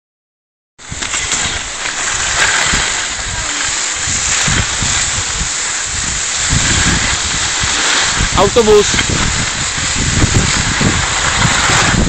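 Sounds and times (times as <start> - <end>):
skis sliding over crusty snow: 0.8 - 12.0
wind buffeting microphone: 0.8 - 12.0.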